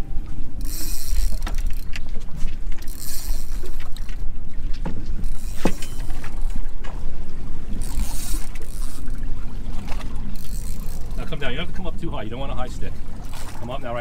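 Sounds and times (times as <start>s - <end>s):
boat low rumble: 0.0s - 14.0s
water splashing against hull: 0.0s - 14.0s.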